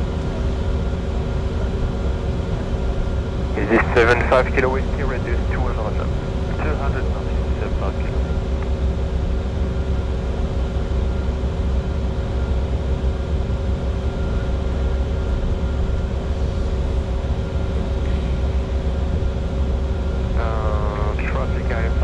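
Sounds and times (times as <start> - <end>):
faint steady tones: 0.0 - 22.0
jet cockpit airflow rumble: 0.0 - 22.0.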